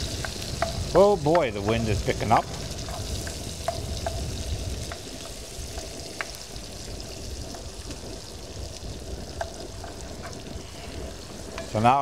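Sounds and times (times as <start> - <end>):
low wind rumble: 0.0 - 12.0
onions sizzling in pot: 0.0 - 12.0.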